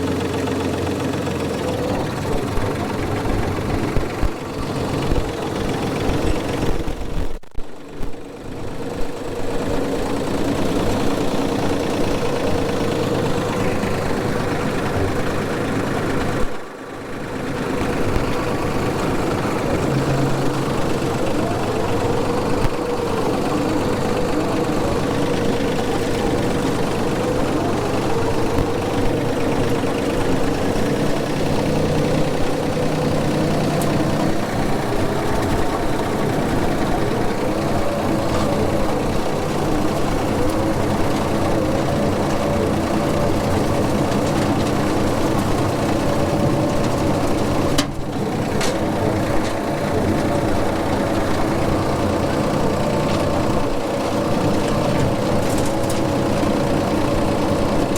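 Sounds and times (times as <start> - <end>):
tractor engine running under load: 0.0 - 57.9.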